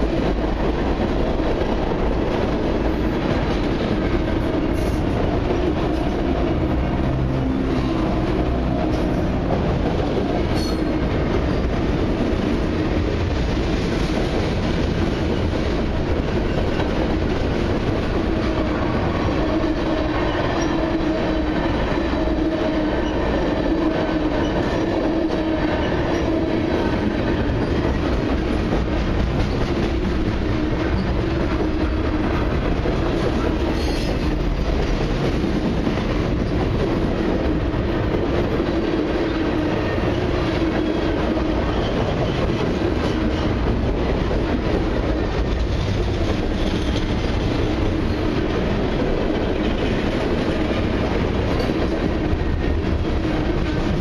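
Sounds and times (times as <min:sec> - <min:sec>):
freight train wheels rumbling on track: 0:00.0 - 0:54.0
wheels clickety-clack: 0:00.0 - 0:54.0.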